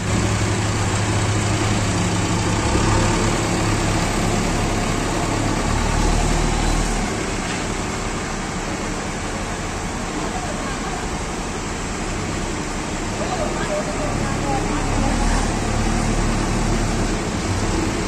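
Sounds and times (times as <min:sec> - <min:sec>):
backhoe diesel engine running: 0:00.0 - 0:18.0.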